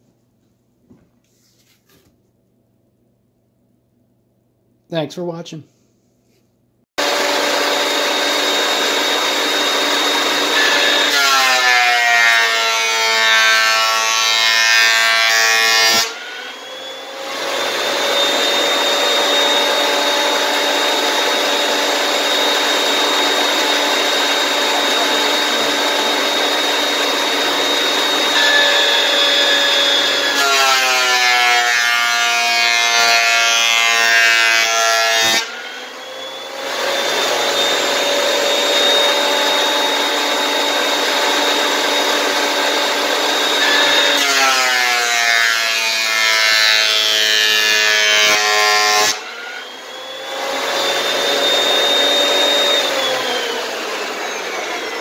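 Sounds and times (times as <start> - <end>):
woodworking planer whining: 7.0 - 55.0.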